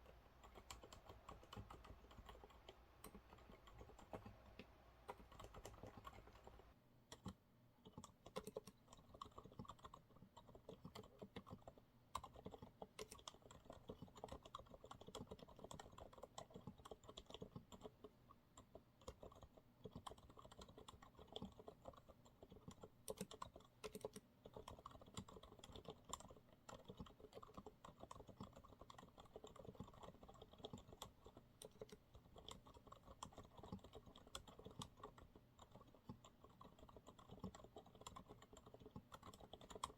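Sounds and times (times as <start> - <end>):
muffled mechanical keyboard typing: 0.0 - 39.9.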